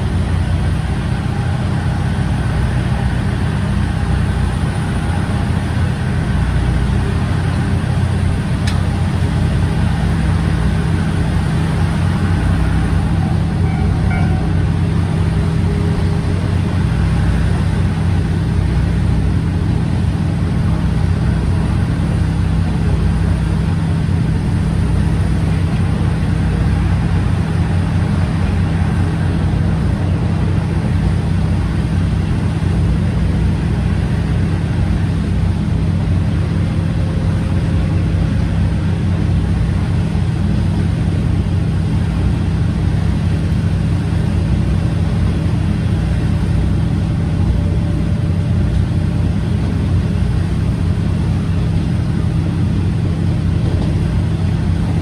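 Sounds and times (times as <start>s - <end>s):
diesel engine drone: 0.0s - 55.0s.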